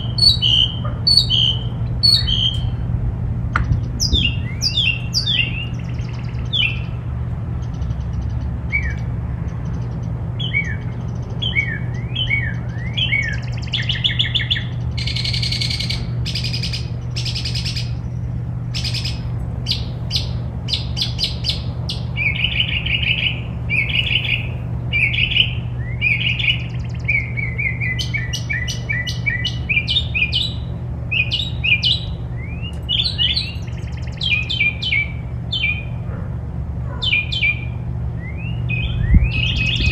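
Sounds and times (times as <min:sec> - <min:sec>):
songbirds chirping and singing: 0:00.0 - 0:36.1, 0:36.8 - 0:39.9
steady low hum: 0:00.0 - 0:39.9.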